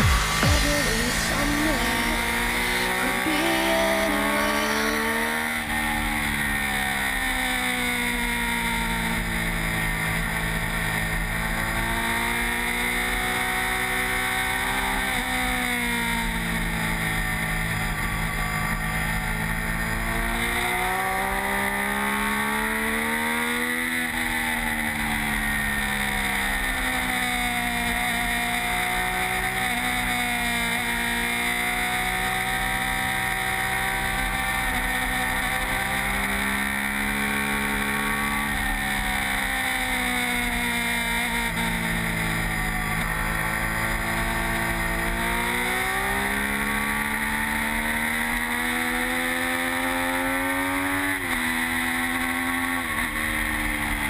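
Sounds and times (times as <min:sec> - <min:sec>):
sport bike engine revving: 0:00.0 - 0:54.0.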